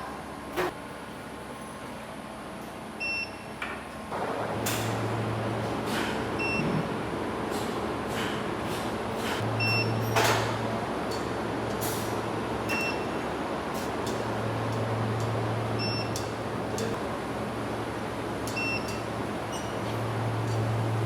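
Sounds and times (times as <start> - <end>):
furnace rushing machine noise: 4.0 - 21.0.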